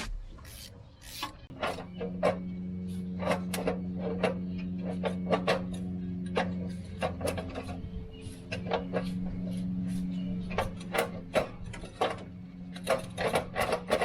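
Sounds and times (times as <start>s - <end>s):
steady low hum: 0.0s - 14.0s
hand tools clanking on metal: 1.2s - 14.0s.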